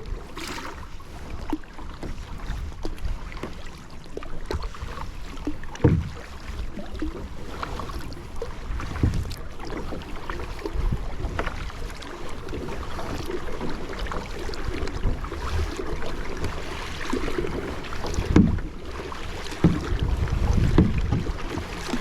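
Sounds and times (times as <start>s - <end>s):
paddle splashes: 0.0s - 22.0s
water lapping around kayak: 0.0s - 22.0s.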